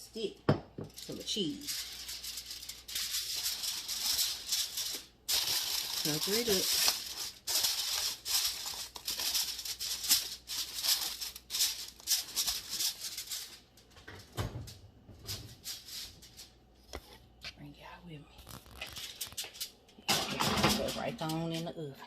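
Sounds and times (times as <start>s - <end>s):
aluminium foil crinkling: 0.8s - 16.6s, 18.4s - 21.8s.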